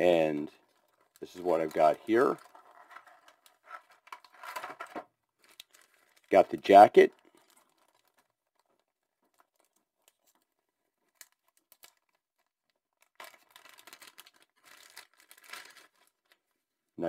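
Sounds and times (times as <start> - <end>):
plastic bag crinkling: 0.4 - 16.5.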